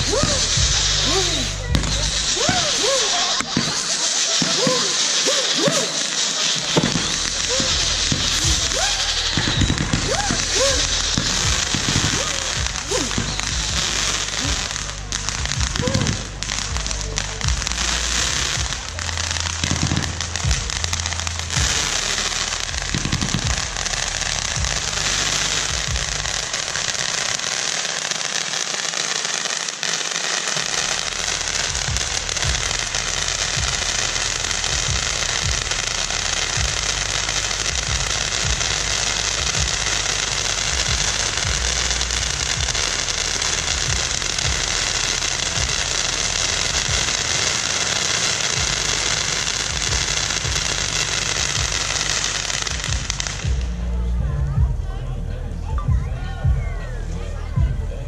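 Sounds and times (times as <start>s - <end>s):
firework fountains hissing: 0.0s - 54.2s.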